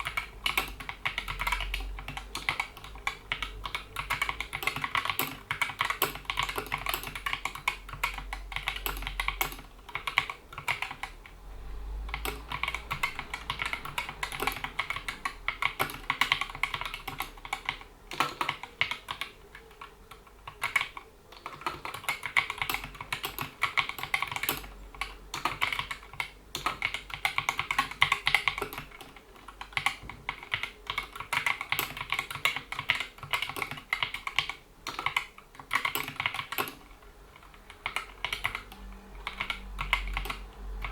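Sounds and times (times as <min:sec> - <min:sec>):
mechanical keyboard typing: 0:00.0 - 0:11.4, 0:12.0 - 0:40.9.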